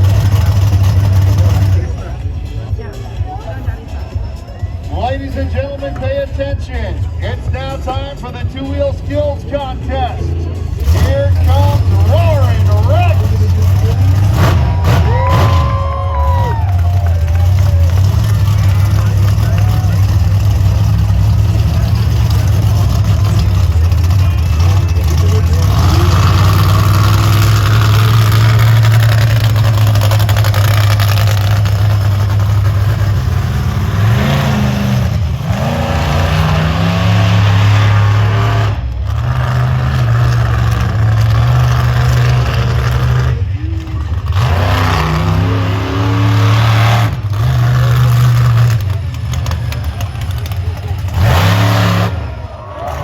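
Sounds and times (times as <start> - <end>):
truck engine revving: 0.0 - 53.0.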